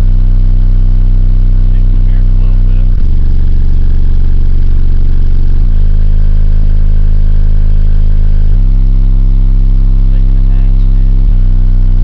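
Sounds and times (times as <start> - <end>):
distorted subwoofer bass notes: 0.0 - 12.0.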